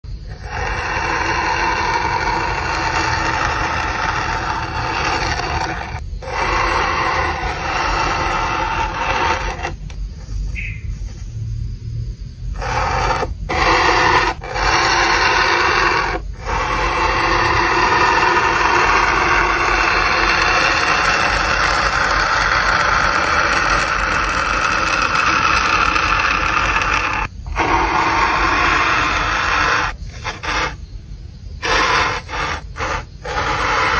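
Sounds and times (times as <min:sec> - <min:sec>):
metal tool scratching foam: 0:00.2 - 0:11.4, 0:12.5 - 0:30.8, 0:31.6 - 0:33.9.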